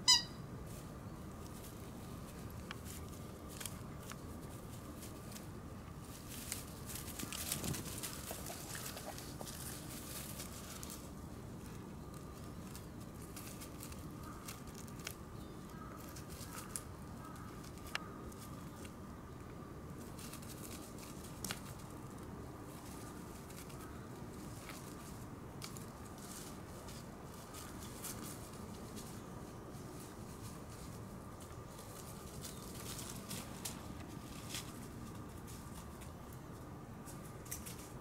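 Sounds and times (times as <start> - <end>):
dogs rustling in dry leaves: 0.1 - 18.8, 19.9 - 36.3.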